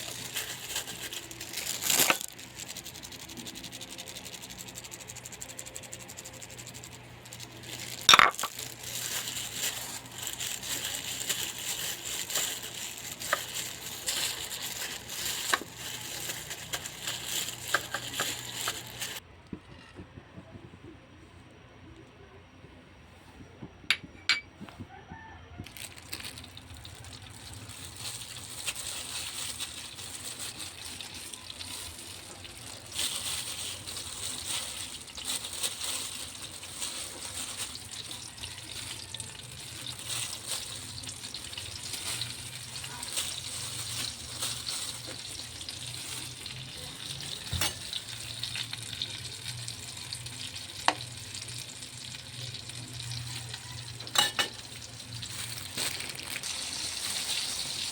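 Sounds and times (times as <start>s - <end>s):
food sizzling in a pan: 3.8s - 19.2s, 26.1s - 57.9s.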